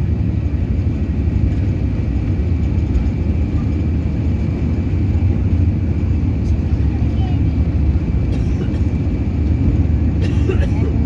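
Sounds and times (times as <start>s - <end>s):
jet engines and wheels rumbling: 0.0s - 11.0s.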